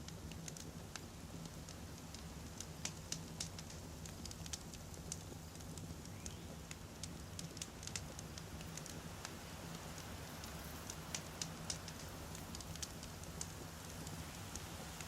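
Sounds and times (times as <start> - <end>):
campfire burning and crackling: 0.0 - 15.0.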